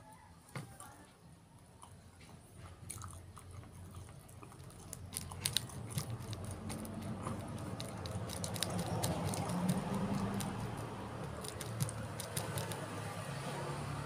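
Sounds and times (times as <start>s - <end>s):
chewing and mouth clicks: 1.6s - 13.1s.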